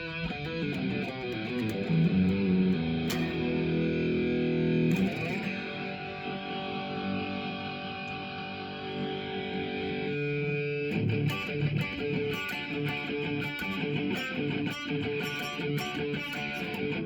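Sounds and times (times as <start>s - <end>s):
electric guitar with light distortion: 0.0s - 17.0s.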